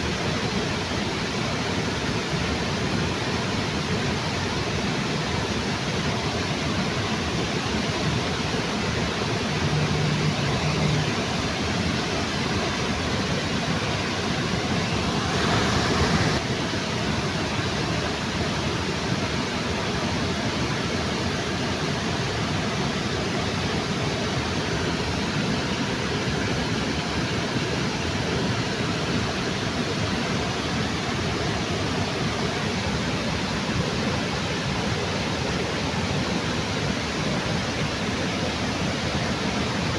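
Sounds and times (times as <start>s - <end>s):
waterfall rushing: 6.2s - 39.9s.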